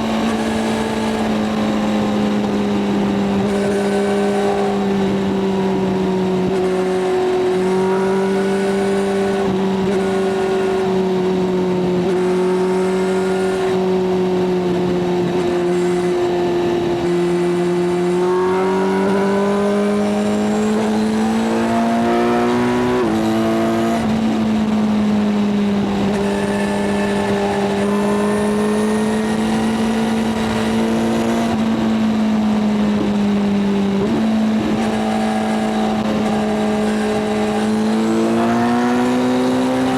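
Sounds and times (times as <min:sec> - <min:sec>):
motorcycle engines cruising: 0:00.0 - 0:39.9
wind and road noise: 0:00.0 - 0:39.9.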